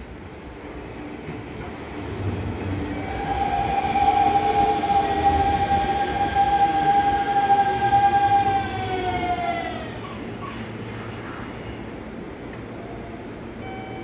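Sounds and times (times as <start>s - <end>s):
electric train whine: 0.0s - 10.4s, 11.8s - 14.0s
train wheels rumbling: 0.0s - 11.4s.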